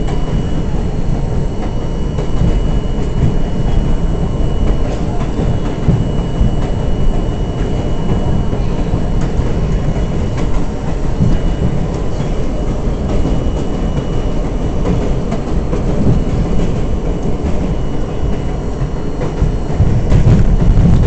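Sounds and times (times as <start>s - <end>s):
faint high whine: 0.0s - 21.0s
subway car wheels rumbling: 0.0s - 21.0s.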